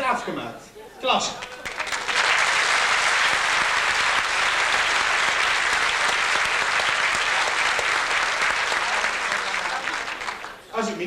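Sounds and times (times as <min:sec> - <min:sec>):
audience applauding: 0:01.4 - 0:10.7.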